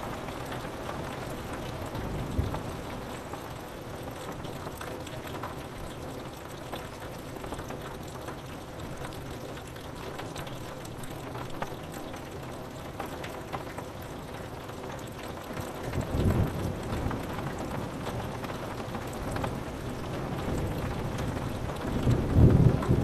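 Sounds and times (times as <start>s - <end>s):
steady rain: 0.0s - 23.0s
raindrops tapping on window glass: 0.1s - 23.0s.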